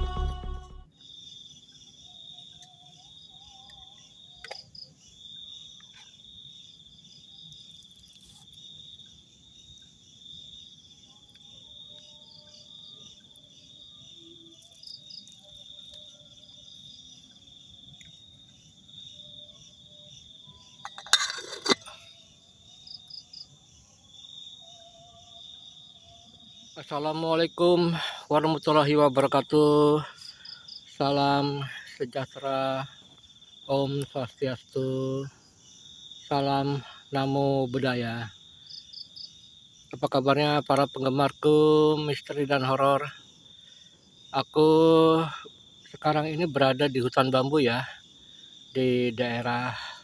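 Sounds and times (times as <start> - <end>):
crickets trilling: 0.0 - 50.0.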